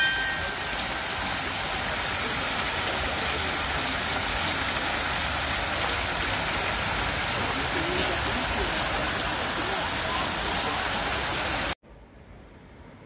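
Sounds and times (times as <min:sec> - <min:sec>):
fountain water splashing: 0:00.0 - 0:11.8.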